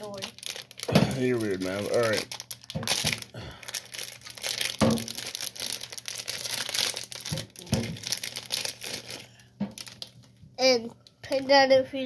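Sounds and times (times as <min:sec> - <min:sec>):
wrapper crinkling and tearing: 0:00.0 - 0:11.5.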